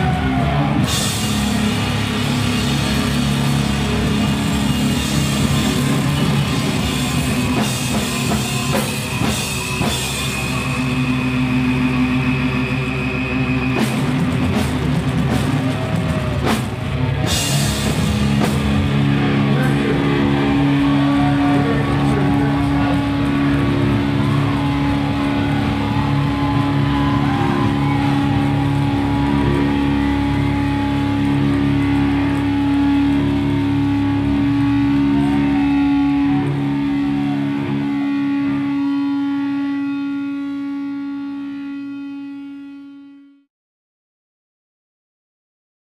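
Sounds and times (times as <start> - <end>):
loud rock band playing: 0.0 - 42.4.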